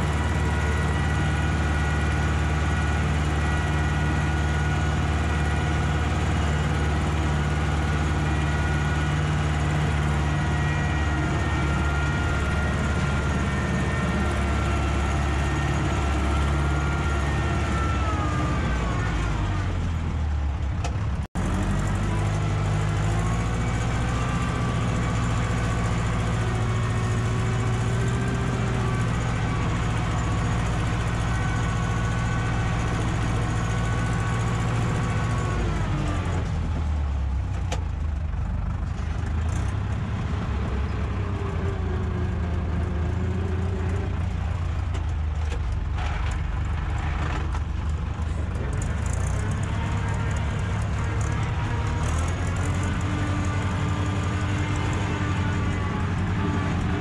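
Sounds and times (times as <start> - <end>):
engine whine: 0.0 - 57.0
tractor diesel engine running: 0.0 - 57.0.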